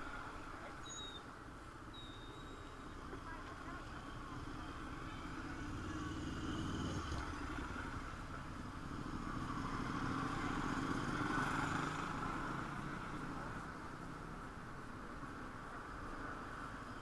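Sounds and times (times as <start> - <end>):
vehicles passing on road: 0.0 - 17.0.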